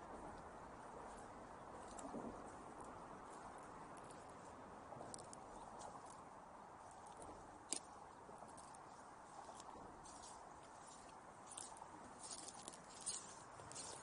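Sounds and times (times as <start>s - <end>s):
crunching footsteps: 0.0s - 14.0s.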